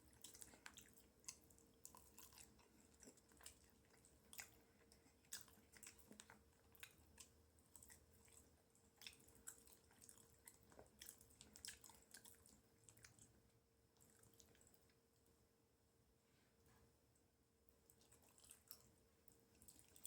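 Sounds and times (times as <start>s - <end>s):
wet chewing: 0.0s - 15.0s, 17.8s - 20.0s
faint steady hum: 0.0s - 20.0s.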